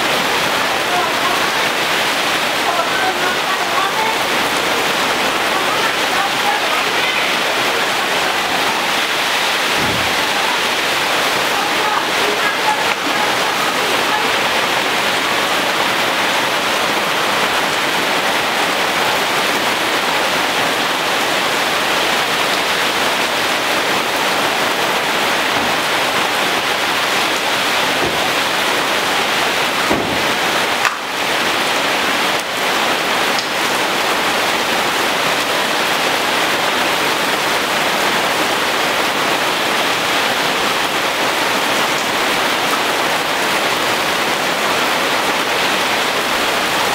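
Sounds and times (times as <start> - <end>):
heavy rain on leaves: 0.0 - 46.9.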